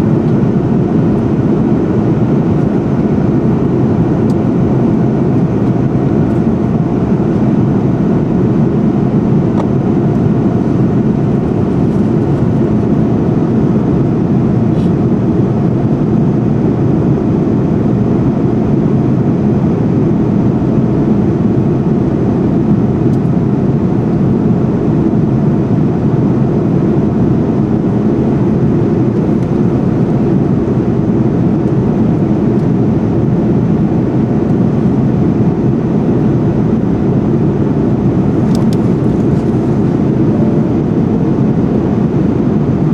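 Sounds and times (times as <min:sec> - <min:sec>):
airliner cabin engine noise: 0:00.0 - 0:42.9.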